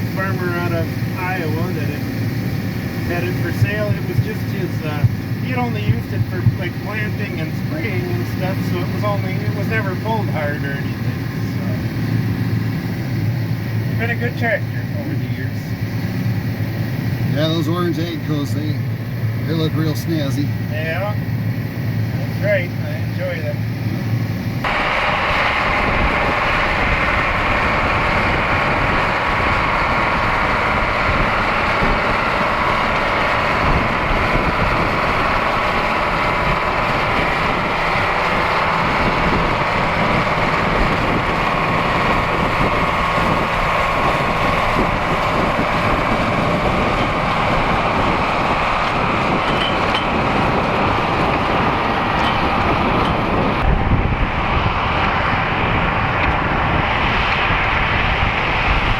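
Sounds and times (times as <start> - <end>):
tractor engine under load: 0.0 - 58.9.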